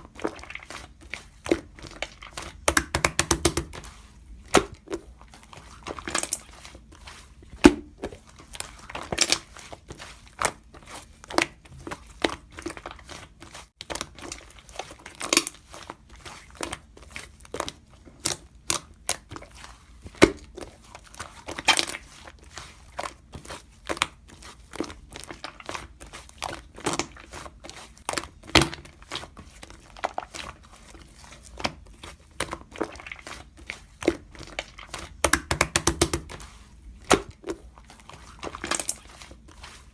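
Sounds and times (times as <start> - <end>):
slime crackling and popping: 7.5 - 39.5.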